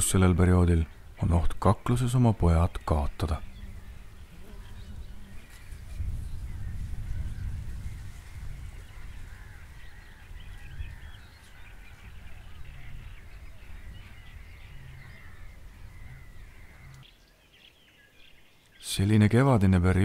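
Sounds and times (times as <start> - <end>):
birds singing and calling: 0.0 - 20.0.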